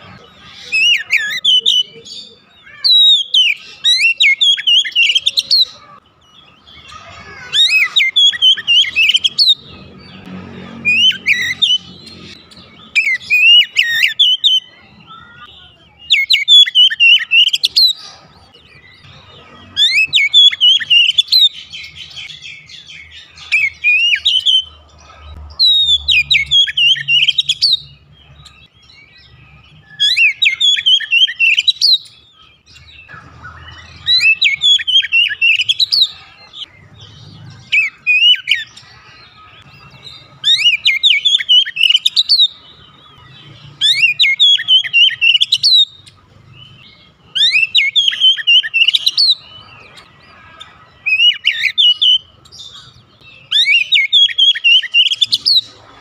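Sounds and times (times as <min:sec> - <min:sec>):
bird singing whistles and chirps: 0:00.0 - 0:10.2, 0:10.8 - 0:18.1, 0:18.8 - 0:24.7, 0:25.6 - 0:55.7.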